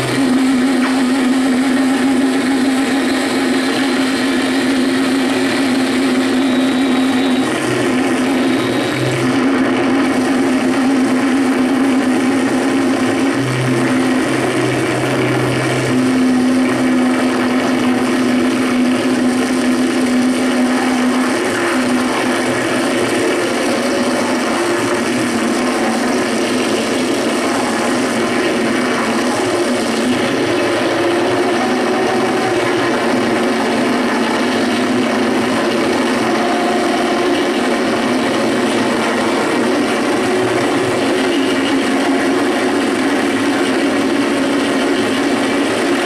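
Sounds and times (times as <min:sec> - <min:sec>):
electronic noise music: 0:00.0 - 0:46.0
low held drone: 0:00.0 - 0:46.0.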